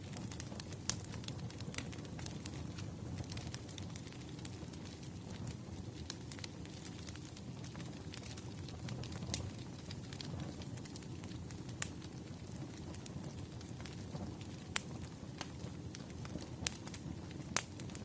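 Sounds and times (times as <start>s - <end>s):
fire crackles and pops: 0.0s - 18.0s
low rush of flames: 0.0s - 18.0s.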